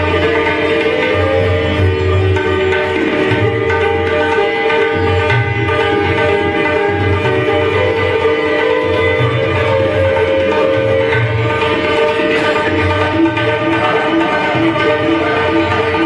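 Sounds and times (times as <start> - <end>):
sitar plucked melody: 0.0 - 16.0.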